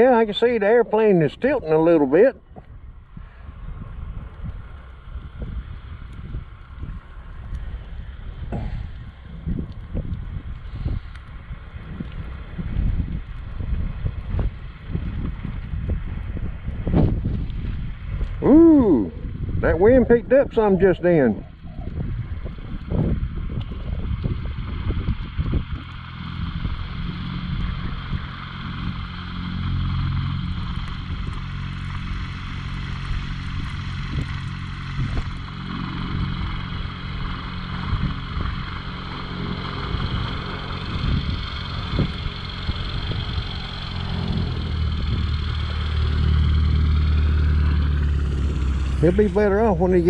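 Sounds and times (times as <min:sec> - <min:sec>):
propeller airplane engine: 0:00.0 - 0:50.0.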